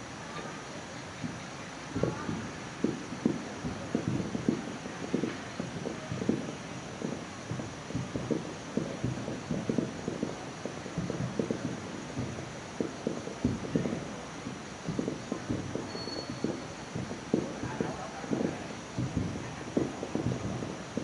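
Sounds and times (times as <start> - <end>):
distant fireworks booming: 0.0 - 21.0.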